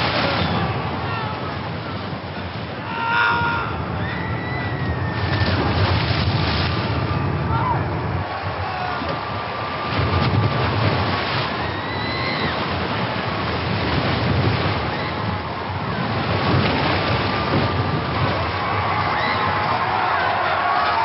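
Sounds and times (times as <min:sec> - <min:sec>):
ocean waves: 0:00.0 - 0:21.0
wind: 0:00.0 - 0:21.0.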